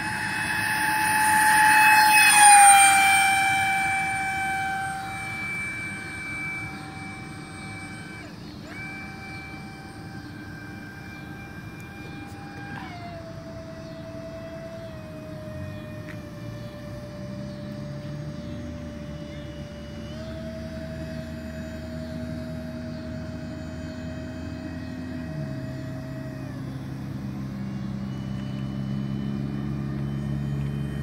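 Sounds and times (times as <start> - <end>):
electric ducted fans whining: 0.0 - 31.0.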